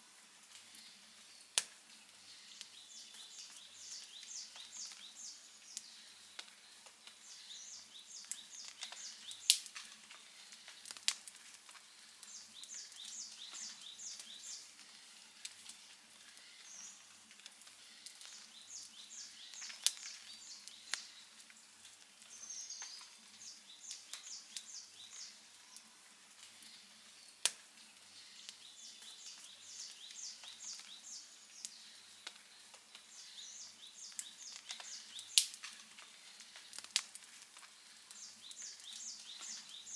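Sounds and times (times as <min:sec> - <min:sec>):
wood fire crackling and popping: 0:00.4 - 0:39.9.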